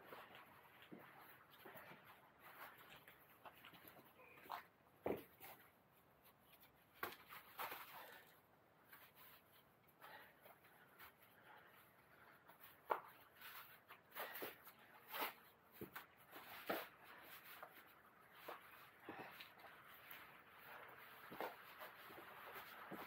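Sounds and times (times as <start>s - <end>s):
jacket fabric rustling: 0.0s - 23.0s.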